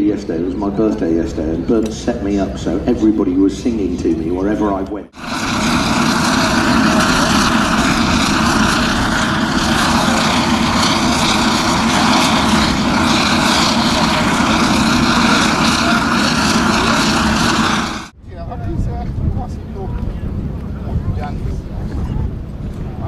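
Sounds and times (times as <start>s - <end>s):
propeller airplane engines droning: 0.0s - 23.0s.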